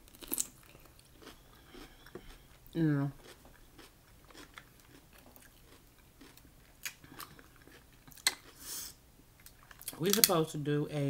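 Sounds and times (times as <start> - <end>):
quiet eating sounds: 0.0 - 10.4.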